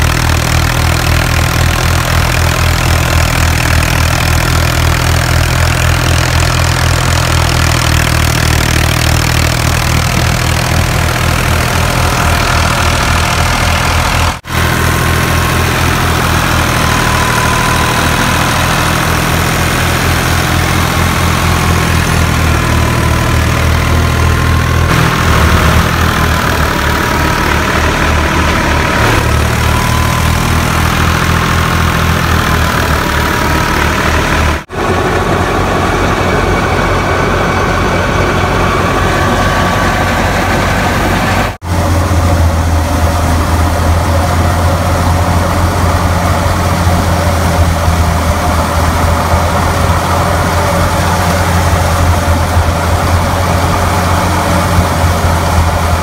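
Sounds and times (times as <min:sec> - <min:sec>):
thresher high whine: 0:00.0 - 0:56.0
tractor diesel engine under load: 0:00.0 - 0:56.0.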